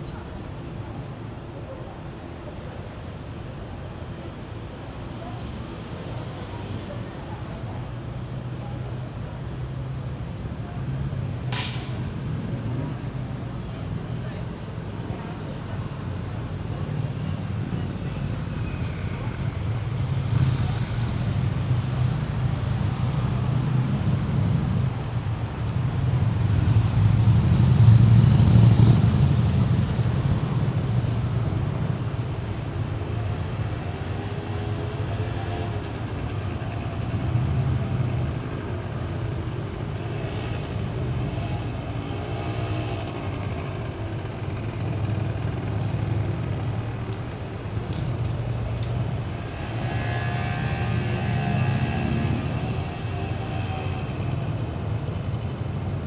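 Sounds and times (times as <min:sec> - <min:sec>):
low rumble of passing vehicles: 0:00.0 - 0:56.0.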